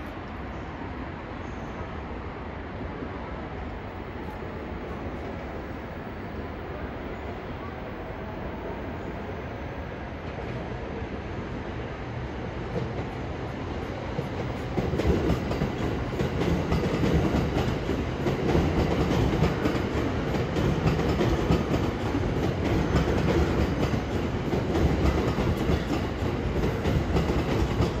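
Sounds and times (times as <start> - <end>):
train wheels rumbling on rails: 2.8 - 28.0.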